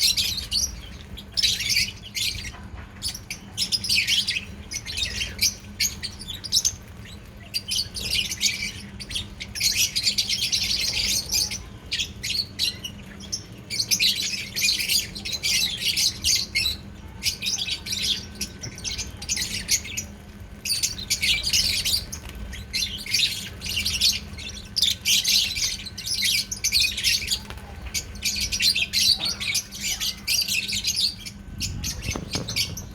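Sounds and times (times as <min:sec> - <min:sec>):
lovebirds chirping and squawking: 0:00.0 - 0:32.9.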